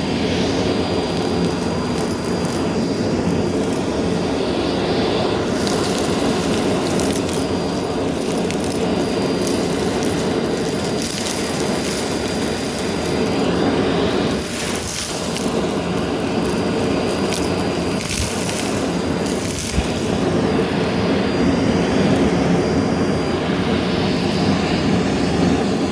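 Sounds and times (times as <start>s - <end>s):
debris crackling in vacuum: 0.0s - 25.9s
vacuum cleaner whining: 0.0s - 25.9s.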